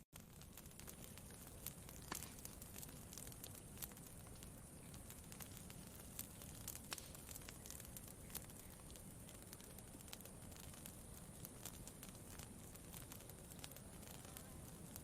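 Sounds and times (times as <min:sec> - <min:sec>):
campfire crackling: 0:00.0 - 0:15.0
fire soft rumble: 0:00.2 - 0:15.0.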